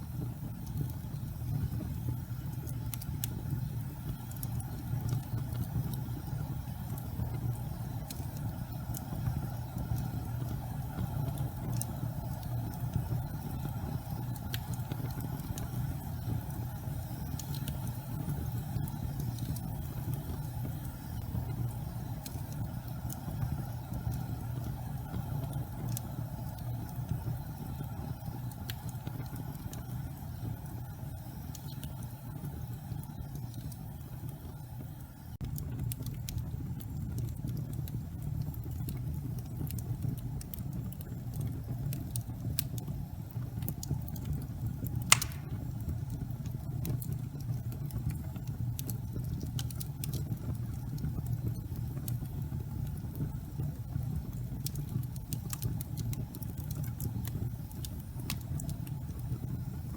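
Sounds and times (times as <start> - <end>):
fire crackles and pop: 0.0 - 59.9
gas fire rumbling: 0.0 - 59.9.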